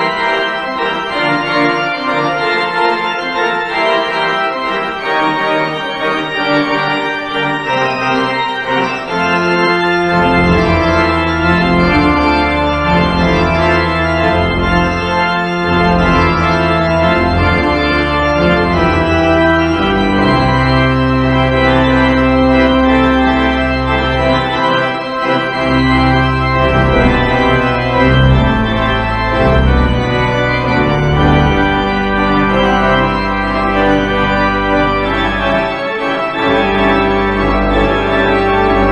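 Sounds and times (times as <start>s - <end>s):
deep organ bass pedal notes: 0.0s - 38.9s
organ playing full chords: 0.0s - 38.9s.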